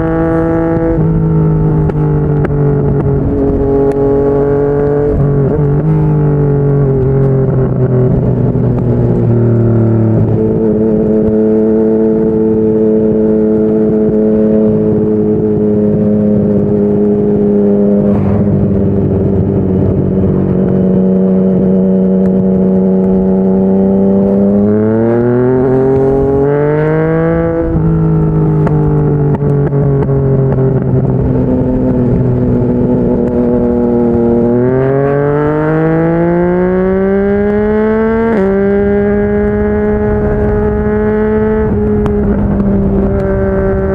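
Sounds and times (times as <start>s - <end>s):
motorcycle engine: 0.0s - 43.9s.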